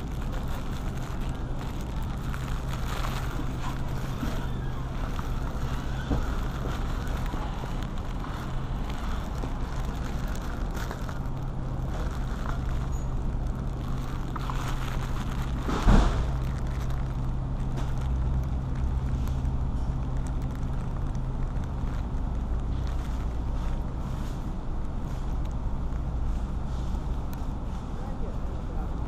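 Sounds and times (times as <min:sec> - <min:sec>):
handling rustle: 0:00.0 - 0:28.0
refrigerated case humming: 0:00.0 - 0:29.0.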